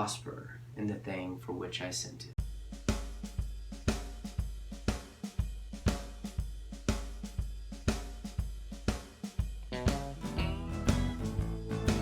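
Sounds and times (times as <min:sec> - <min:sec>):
drum kit playing steady beat: 0:02.4 - 0:12.0.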